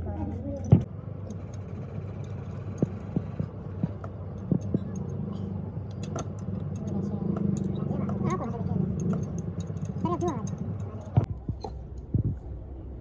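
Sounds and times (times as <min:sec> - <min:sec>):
light clicks and knocks: 0:00.6 - 0:11.3.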